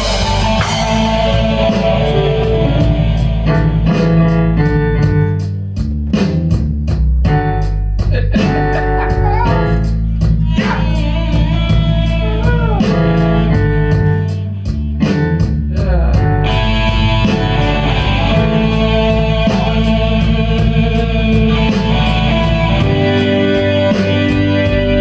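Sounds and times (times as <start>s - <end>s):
electric guitar lead: 0.0s - 5.7s, 8.4s - 25.0s
bass guitar: 0.0s - 25.0s
drum beat: 0.0s - 25.0s.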